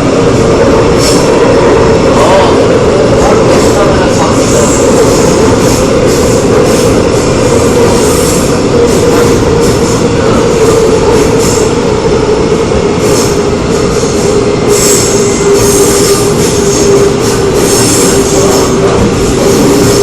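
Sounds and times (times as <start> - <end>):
electric train rumble and hum: 0.0 - 20.0.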